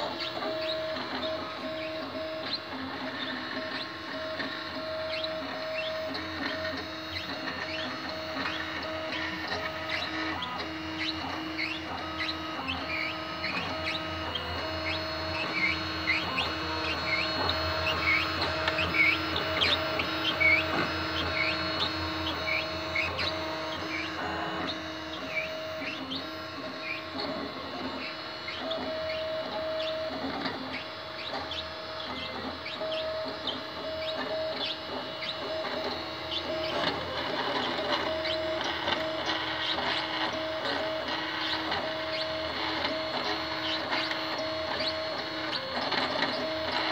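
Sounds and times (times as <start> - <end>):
printer stepper motors whining: 0.0 - 46.9.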